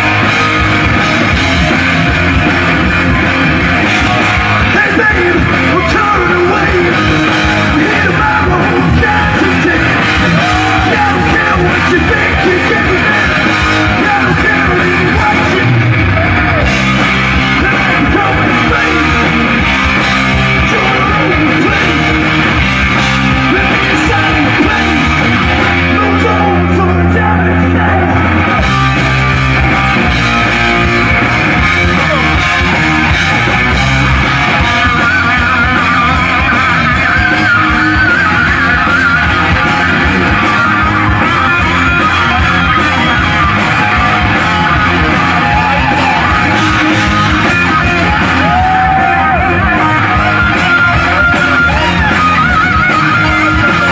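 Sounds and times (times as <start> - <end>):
bass guitar: 0.0 - 53.9
distorted electric guitars: 0.0 - 53.9
drums: 0.0 - 53.9.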